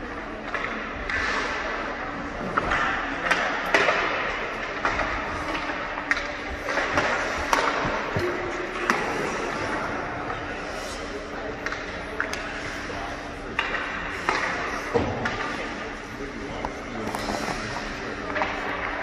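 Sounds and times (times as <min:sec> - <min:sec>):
hockey sticks and pucks clacking: 0:00.0 - 0:19.0.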